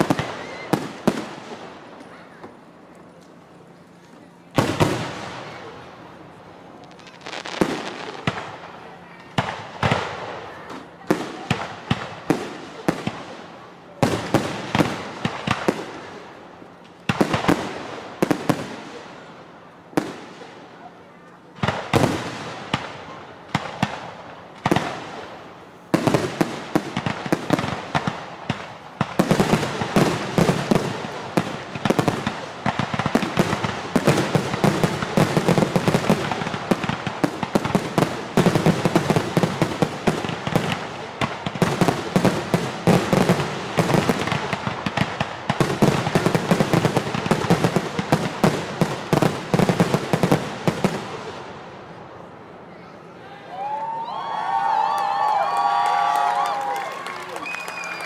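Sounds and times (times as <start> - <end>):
fireworks bursting: 0.0 - 52.3.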